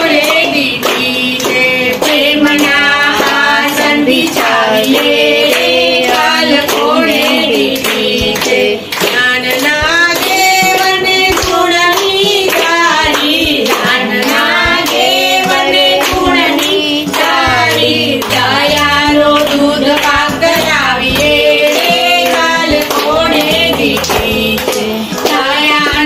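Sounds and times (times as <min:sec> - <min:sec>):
hand claps: 0:00.0 - 0:26.0
women singing devotional song: 0:00.0 - 0:26.0.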